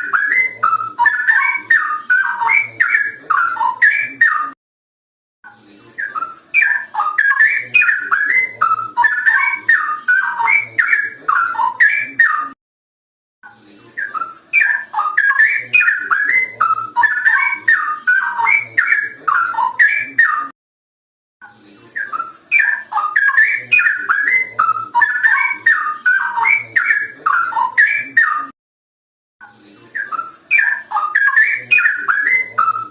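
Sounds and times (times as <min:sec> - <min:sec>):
bird singing whistled notes: 0:00.0 - 0:04.6, 0:06.0 - 0:12.6, 0:14.0 - 0:20.5, 0:22.0 - 0:28.5, 0:30.0 - 0:32.9.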